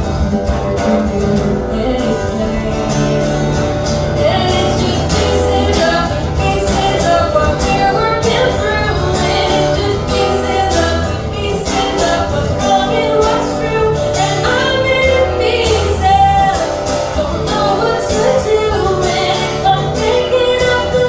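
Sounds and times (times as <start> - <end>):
sustained low bass notes: 0.0 - 21.0.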